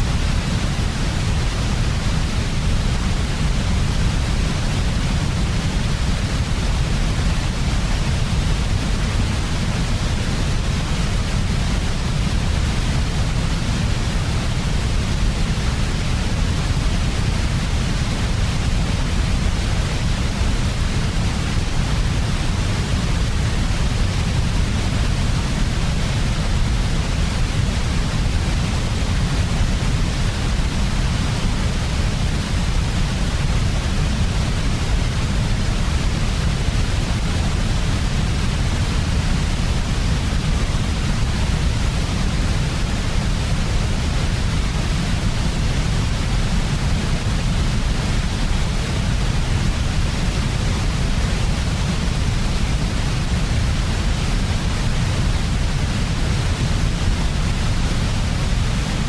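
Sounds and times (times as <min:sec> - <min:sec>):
synthetic white noise: 0:00.0 - 0:59.0.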